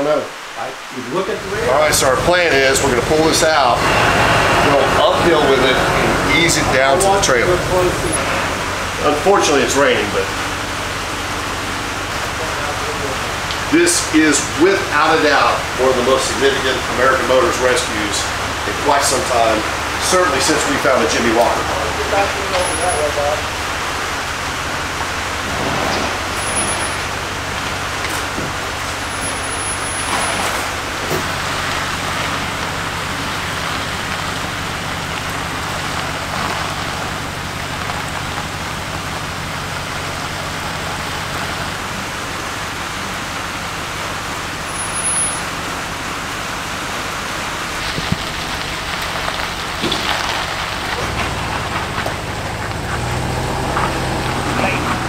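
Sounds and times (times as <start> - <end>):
rain falling: 0.0 - 55.0
engine idling: 0.6 - 55.0.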